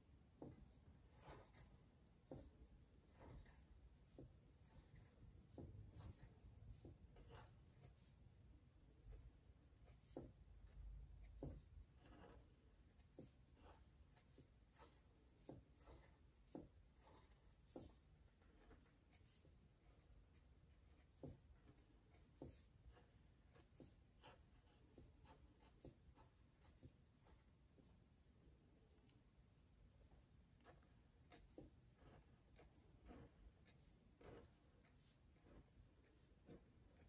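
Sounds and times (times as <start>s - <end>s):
marker scratching on paper: 0.2s - 37.0s.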